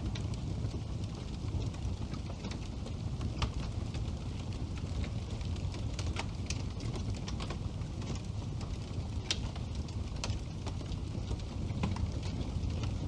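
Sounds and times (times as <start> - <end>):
fire crackles and pops: 0.0 - 13.0
low rumble of flames: 0.0 - 13.0.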